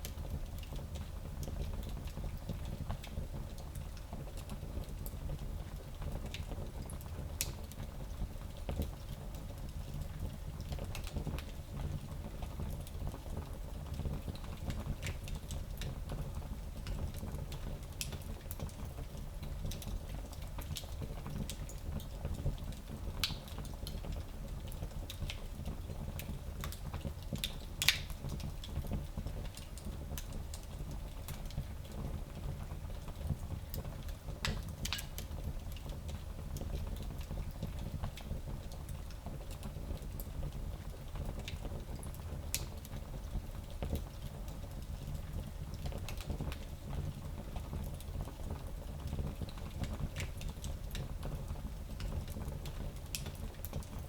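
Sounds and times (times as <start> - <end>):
fire crackles and pops: 0.0 - 54.0
low rumble of flame: 0.0 - 54.0.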